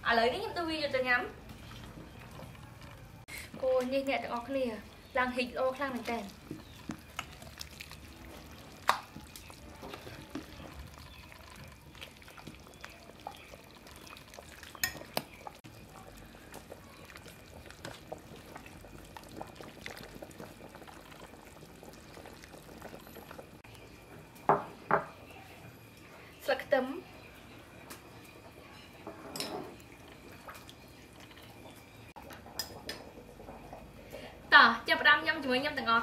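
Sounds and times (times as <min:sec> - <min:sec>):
stew bubbling at a boil: 0:00.0 - 0:36.0.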